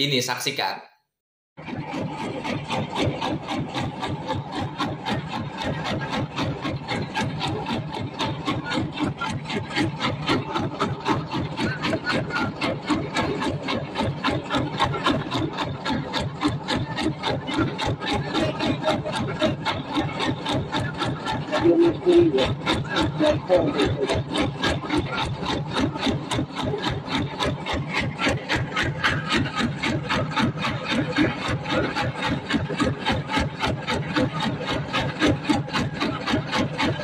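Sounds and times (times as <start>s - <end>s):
boat engine chugging: 1.6s - 37.0s.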